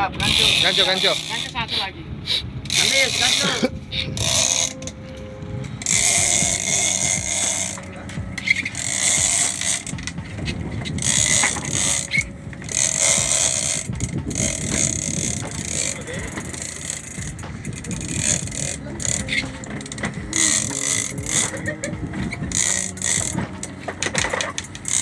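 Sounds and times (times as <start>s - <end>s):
fishing reel whirring and clicking: 0.0s - 1.8s, 2.6s - 5.0s, 5.8s - 25.0s.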